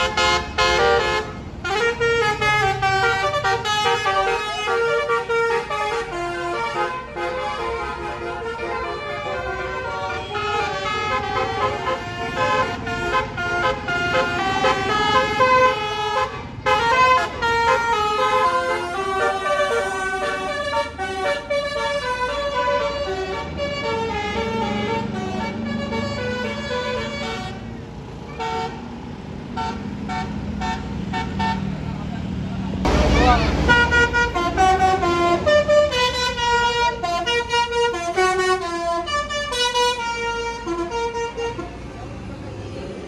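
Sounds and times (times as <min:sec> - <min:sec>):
musical air horn playing a tune: 0:00.0 - 0:27.6, 0:33.6 - 0:41.7
passing traffic rumble: 0:00.0 - 0:43.0.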